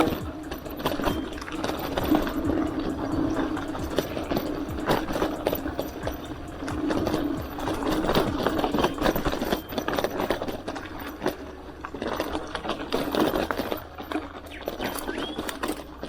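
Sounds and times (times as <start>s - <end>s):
mountain bike rattling over trail: 0.0s - 16.0s.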